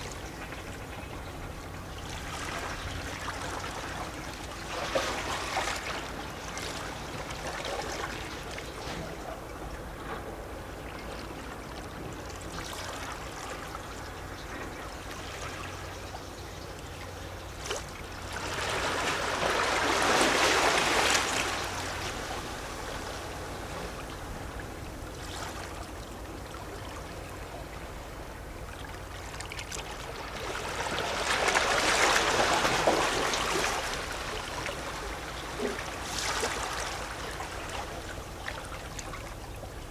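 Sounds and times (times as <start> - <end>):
waves lapping against rocks: 2.0 - 15.6, 17.6 - 39.9.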